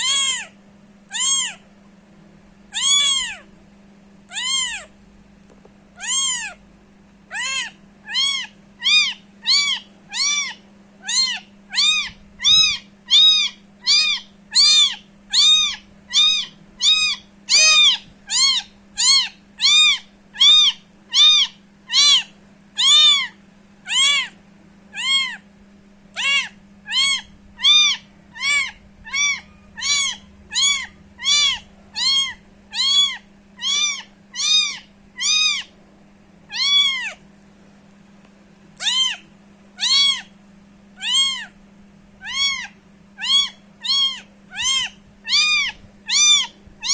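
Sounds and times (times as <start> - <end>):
kitten meowing: 0.0 - 1.6, 2.7 - 3.5, 4.3 - 4.9, 6.0 - 6.6, 7.3 - 25.4, 26.1 - 35.7, 36.5 - 37.2, 38.8 - 40.3, 41.0 - 41.6, 42.2 - 46.9.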